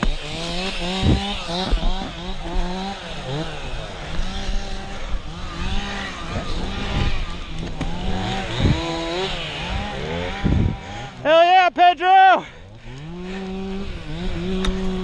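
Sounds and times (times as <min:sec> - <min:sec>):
chainsaw revving: 0:00.0 - 0:11.4, 0:12.4 - 0:15.0.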